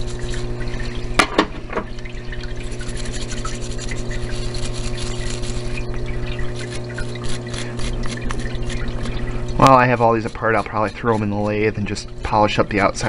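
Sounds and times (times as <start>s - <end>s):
electric pump humming: 0.0s - 13.0s
scrubbing metal part in solvent: 0.0s - 13.0s.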